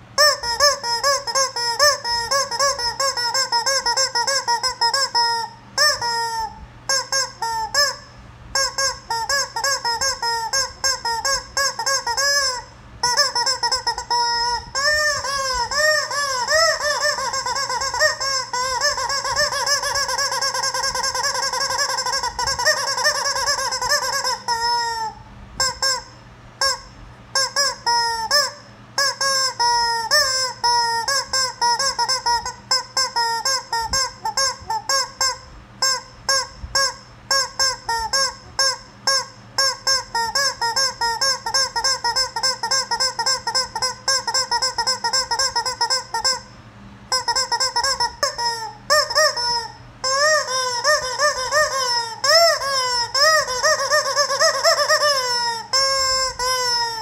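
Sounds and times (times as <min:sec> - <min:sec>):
rubber chicken toy squawking: 0:00.0 - 0:57.0.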